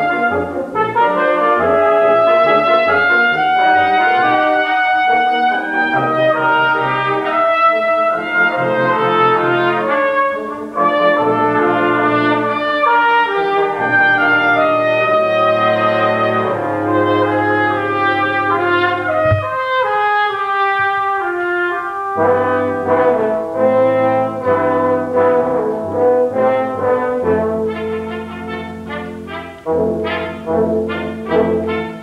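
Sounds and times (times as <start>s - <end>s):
brass quintet playing chords: 0.0s - 32.0s.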